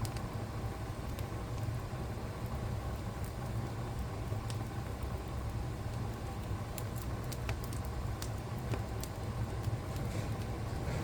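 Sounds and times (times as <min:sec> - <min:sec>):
fire crackling pop: 0:00.0 - 0:11.0
fire rumbling and hissing: 0:00.0 - 0:11.0.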